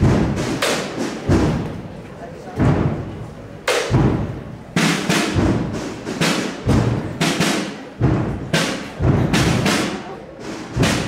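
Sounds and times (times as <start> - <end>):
snare drum strokes: 0.0 - 1.8, 2.6 - 11.0.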